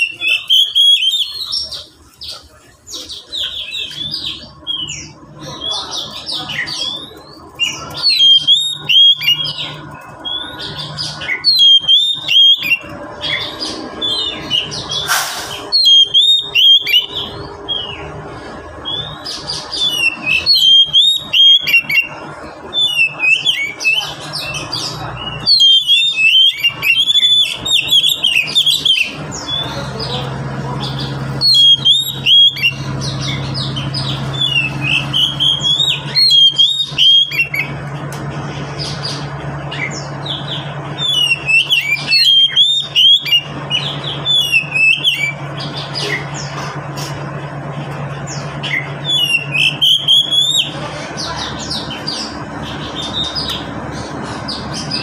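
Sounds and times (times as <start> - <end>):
bird whistling and chattering: 0.0 - 37.8, 38.6 - 47.5, 48.2 - 55.0.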